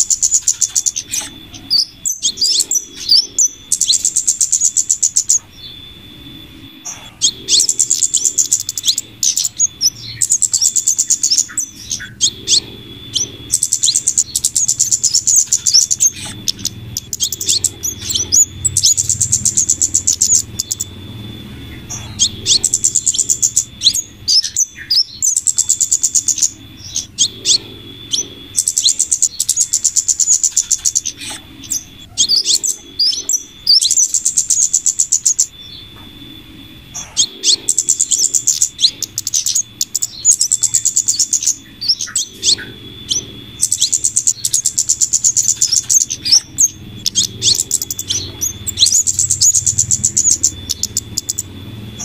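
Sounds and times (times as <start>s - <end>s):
rapid high-pitched ticking trills: 0.0s - 52.0s
thin steady high bird note: 0.0s - 52.0s.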